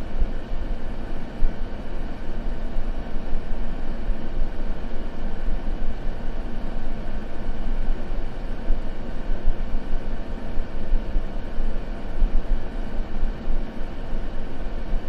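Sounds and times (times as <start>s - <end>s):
low white noise hiss: 0.0s - 15.0s.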